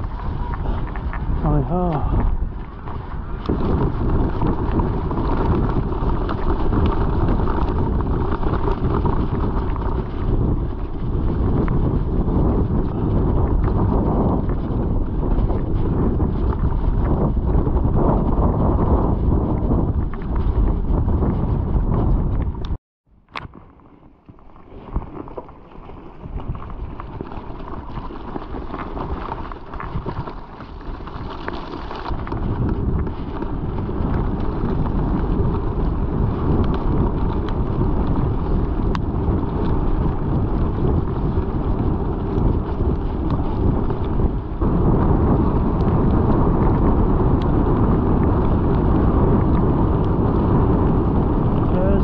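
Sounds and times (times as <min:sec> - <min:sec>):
wind noise on microphone: 0:00.0 - 0:52.0.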